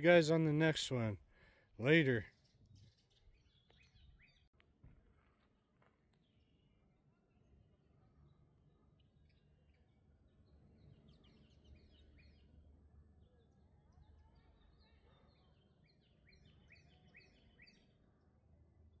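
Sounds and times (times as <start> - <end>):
faint low outdoor rumble: 0.0 - 19.0
faint bird chirping: 1.2 - 19.0.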